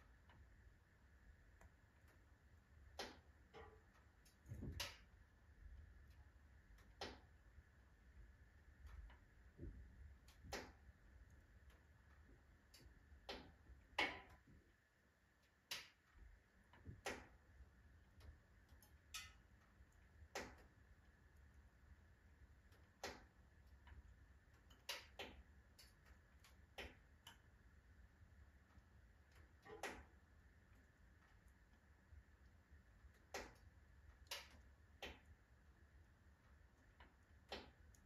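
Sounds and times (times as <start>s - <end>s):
firewood crackling and popping: 0.0s - 38.0s
low steady hum: 0.0s - 38.0s.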